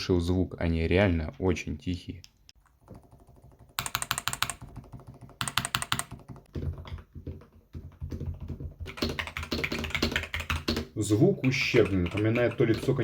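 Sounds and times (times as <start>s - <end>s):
keyboard typing: 2.6s - 13.0s.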